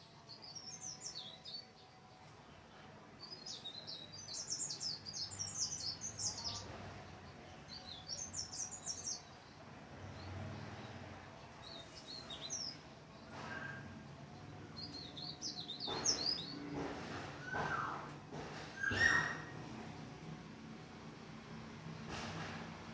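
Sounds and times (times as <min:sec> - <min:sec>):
leaf warbler twittering song: 0:00.0 - 0:20.3.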